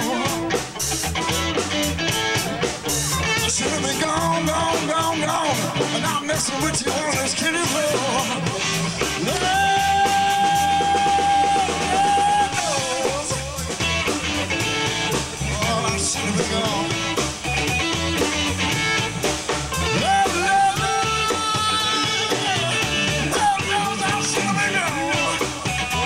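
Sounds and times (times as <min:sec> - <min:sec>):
electric blues band playing: 0:00.0 - 0:26.0.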